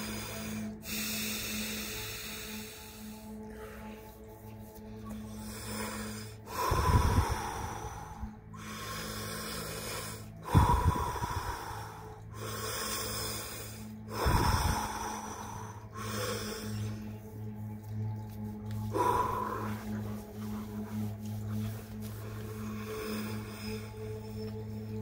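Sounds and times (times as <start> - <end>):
forceful breathing through mouth: 0.0 - 17.6, 18.8 - 25.0
soft background music with drone: 0.0 - 25.0.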